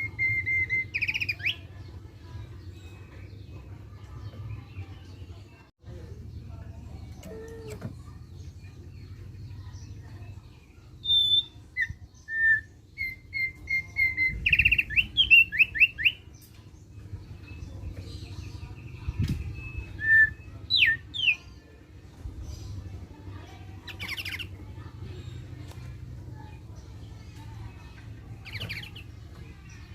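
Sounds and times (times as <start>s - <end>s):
bird chirping: 0.0s - 21.7s, 26.4s - 29.9s
buzzy bird chatter: 0.0s - 29.9s.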